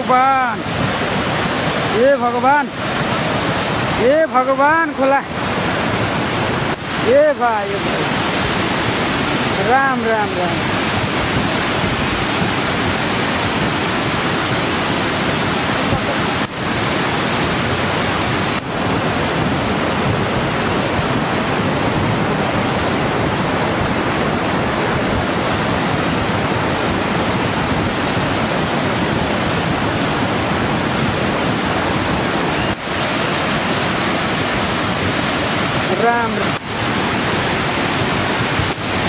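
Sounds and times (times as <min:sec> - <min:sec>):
flooded river rushing: 0:00.0 - 0:39.0.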